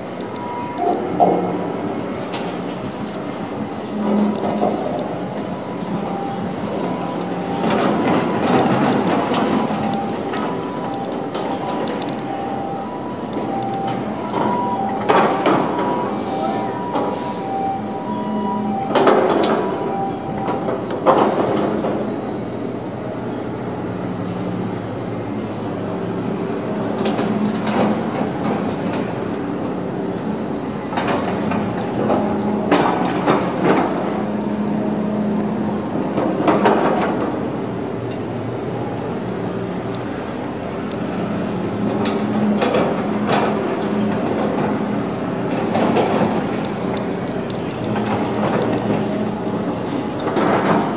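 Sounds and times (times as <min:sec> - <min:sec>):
crane engine running: 0:00.0 - 0:50.9.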